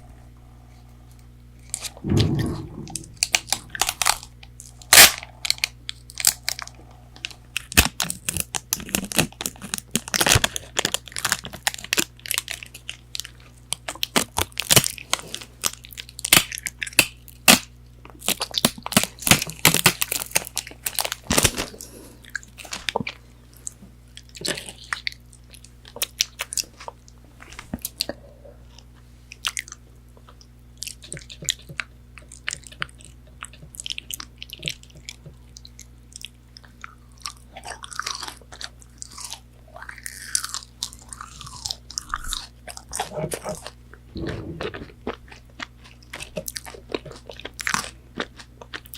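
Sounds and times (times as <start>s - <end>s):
crunching and chewing food: 3.3s - 48.9s.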